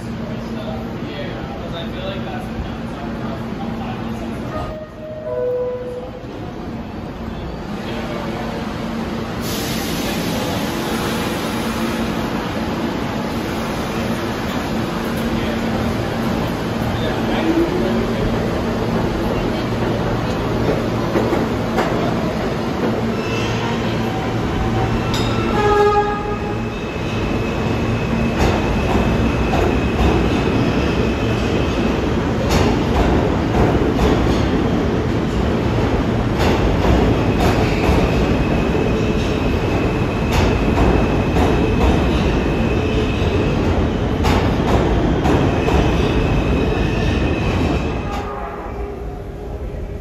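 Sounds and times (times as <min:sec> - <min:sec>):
subway train rumble and wheel noise: 0:00.0 - 0:50.0.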